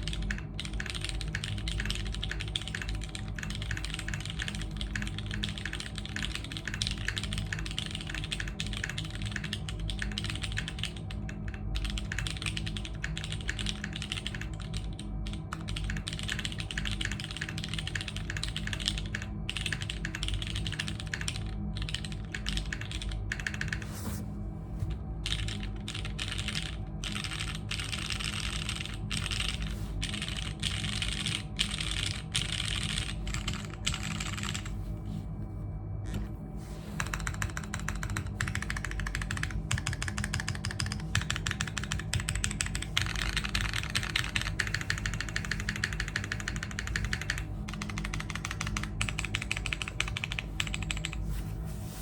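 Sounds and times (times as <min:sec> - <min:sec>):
mechanical keyboard typing: 0:00.0 - 0:23.9, 0:25.2 - 0:34.7, 0:37.0 - 0:51.2.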